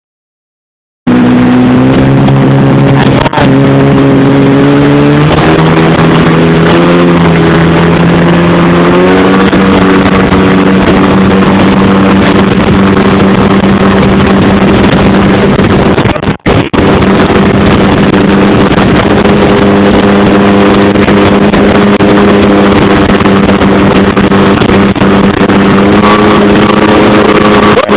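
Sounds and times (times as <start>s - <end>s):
jet ski engine running hard: 1.1s - 27.9s.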